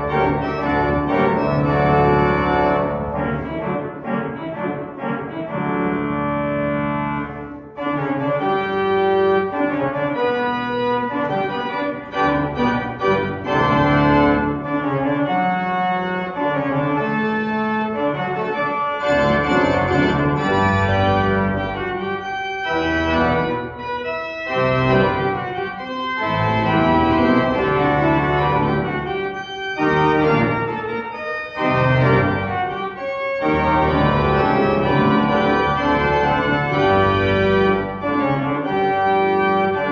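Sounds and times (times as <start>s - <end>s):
organ playing sustained chords: 0.0s - 39.9s.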